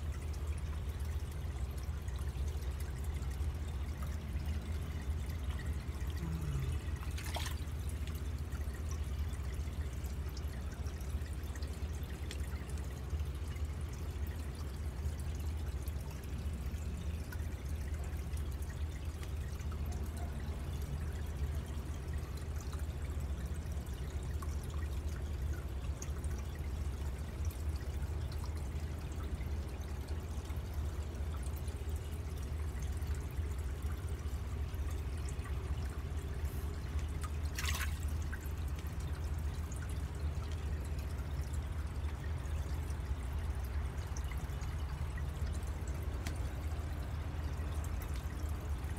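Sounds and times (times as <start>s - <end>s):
fountain water trickling: 0.0s - 48.9s
low hum: 0.0s - 48.9s.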